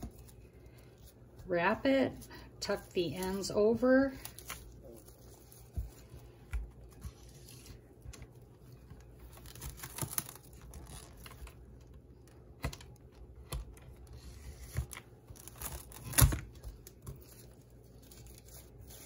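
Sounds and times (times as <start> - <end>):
plastic cling wrap crinkling: 0.0 - 19.0.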